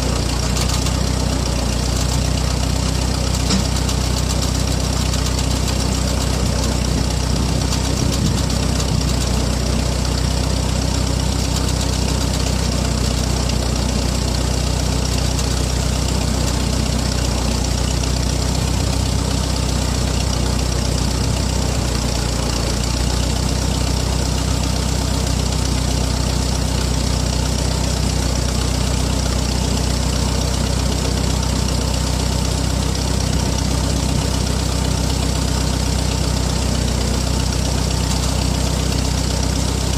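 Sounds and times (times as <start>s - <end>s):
backhoe engine idling: 0.0s - 39.9s.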